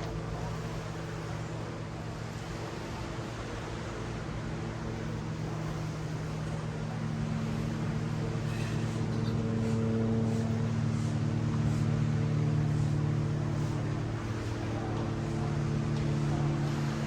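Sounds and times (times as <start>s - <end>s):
engine hum: 0.0s - 17.0s
surf hissing: 0.0s - 17.0s.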